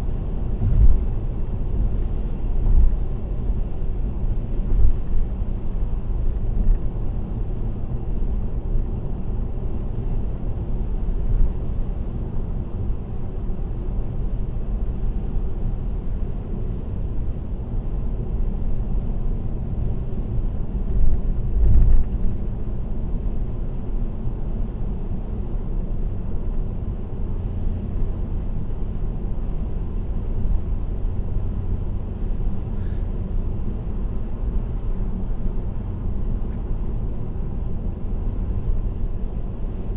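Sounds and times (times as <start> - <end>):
car road rumble and tyre noise: 0.0 - 39.9.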